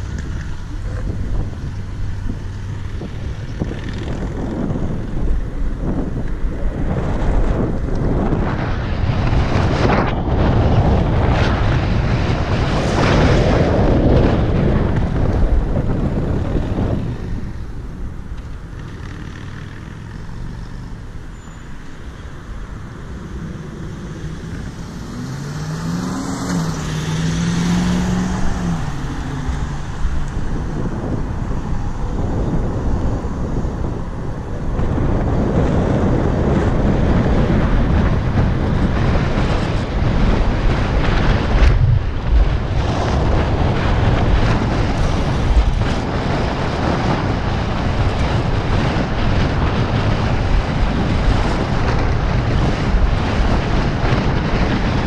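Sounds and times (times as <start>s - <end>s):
electric scooter motor hum: 0.0s - 55.0s
road noise: 0.0s - 55.0s
wind buffeting microphone: 0.0s - 55.0s.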